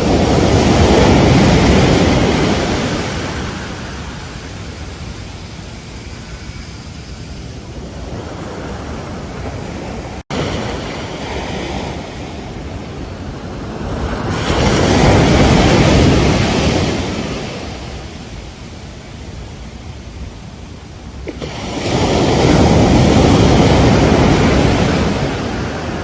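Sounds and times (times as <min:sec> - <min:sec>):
wave breaking: 0:00.0 - 0:18.6, 0:21.2 - 0:26.0
ocean waves washing: 0:00.0 - 0:26.0.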